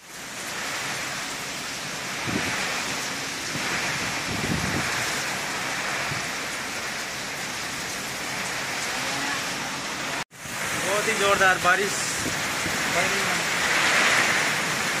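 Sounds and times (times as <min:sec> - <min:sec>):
heavy rain pouring: 0:00.0 - 0:15.0
wind gusts buffeting microphone: 0:00.4 - 0:15.0.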